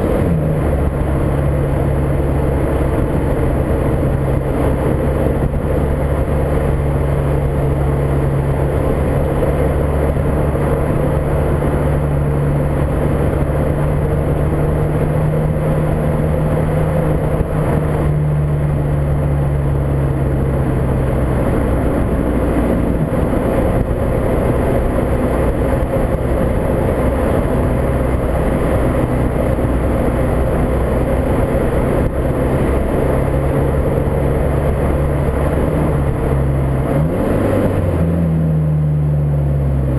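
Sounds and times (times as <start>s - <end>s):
heavy wind noise: 0.0s - 38.5s
car engine running: 0.0s - 39.9s.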